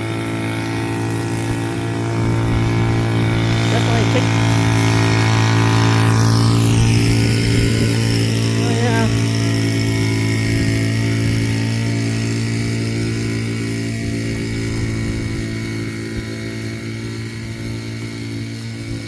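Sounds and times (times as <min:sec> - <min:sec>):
gasoline engine running: 0:00.0 - 0:19.0.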